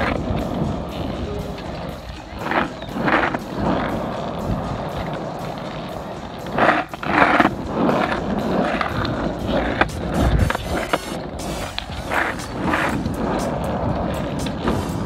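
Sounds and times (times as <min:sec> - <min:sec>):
scooter wheels rumbling on asphalt: 0:00.0 - 0:15.0.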